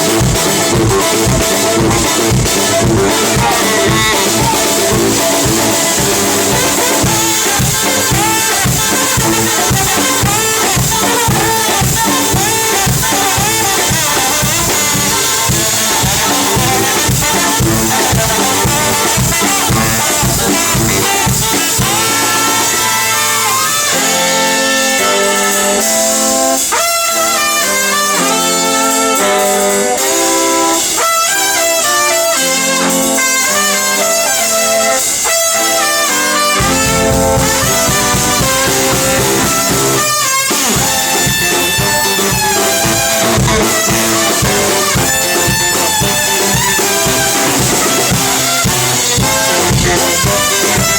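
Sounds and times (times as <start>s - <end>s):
drum kit: 0.0s - 50.9s
horns and saxophones playing: 0.0s - 50.9s.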